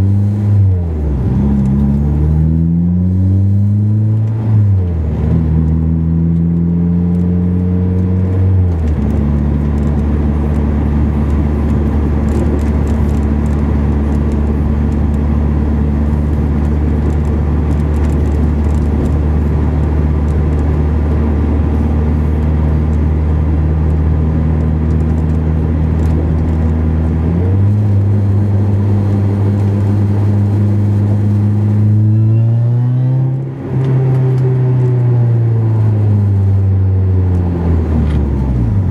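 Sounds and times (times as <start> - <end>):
car engine driving: 0.0 - 38.9.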